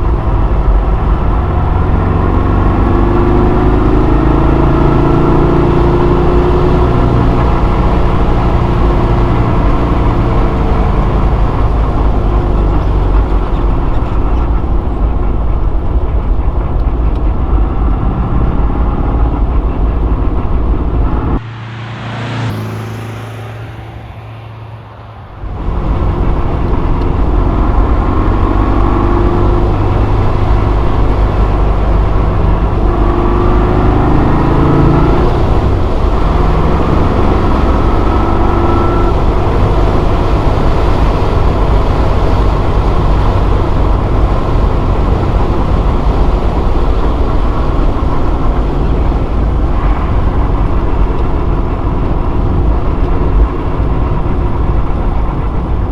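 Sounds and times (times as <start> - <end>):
car engine running: 0.0 - 55.9
road noise: 0.0 - 55.9.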